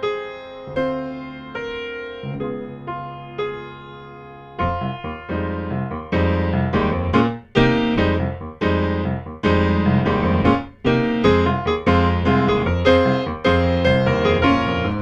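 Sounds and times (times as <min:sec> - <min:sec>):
piano playing chords: 0:00.0 - 0:15.0.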